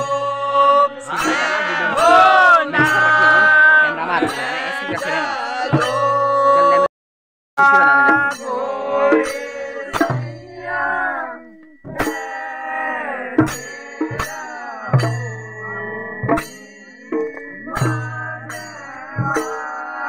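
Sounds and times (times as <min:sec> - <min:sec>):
sharp drum or cymbal strokes: 0:00.0 - 0:06.3, 0:07.6 - 0:11.0, 0:11.6 - 0:20.0
voices singing: 0:00.0 - 0:06.9, 0:07.6 - 0:20.0.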